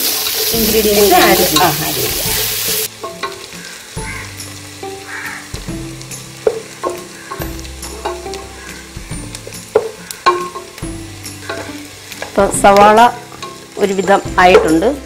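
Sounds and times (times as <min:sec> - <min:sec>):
onions sizzling in a pan: 0:00.0 - 0:15.0
soft background music: 0:00.0 - 0:15.0.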